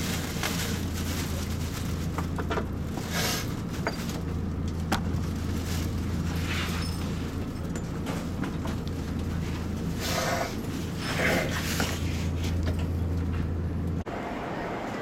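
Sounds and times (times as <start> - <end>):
electric train low hum: 0.0 - 15.0.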